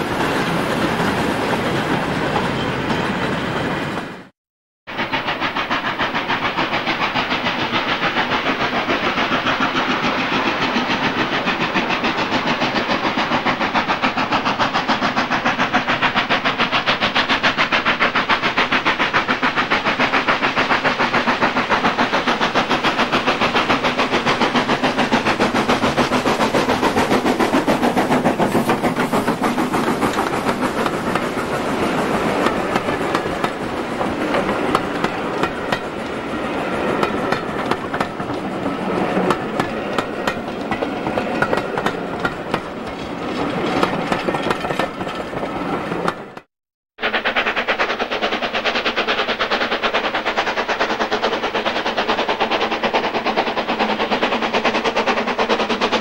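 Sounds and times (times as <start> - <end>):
steam locomotive exhaust beating: 4.9 - 56.0.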